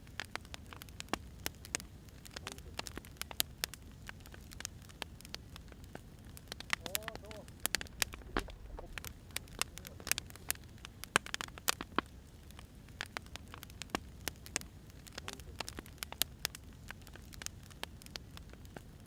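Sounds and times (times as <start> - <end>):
firewood crackling and popping: 0.0 - 19.0
low steady rumble: 0.0 - 19.0.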